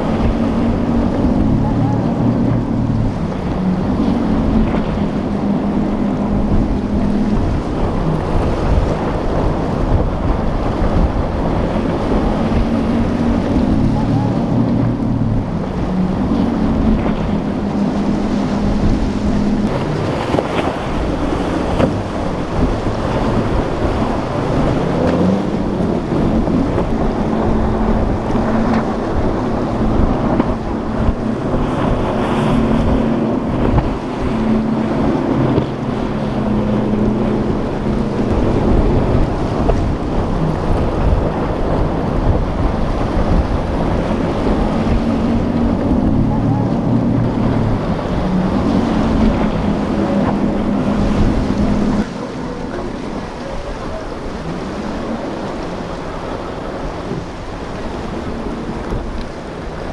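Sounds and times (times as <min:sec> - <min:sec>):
outboard engines droning: 0:00.0 - 0:59.9
splashing spray and waves: 0:00.0 - 0:59.9
wind buffeting the microphone: 0:00.0 - 0:59.9.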